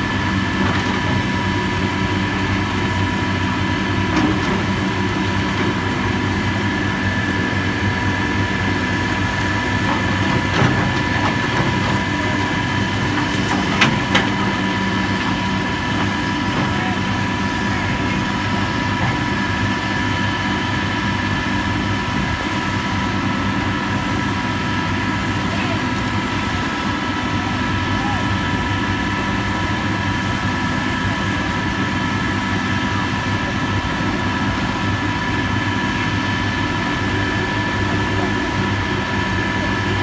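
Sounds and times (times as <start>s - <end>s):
diesel engine running with whine: 0.0s - 40.0s.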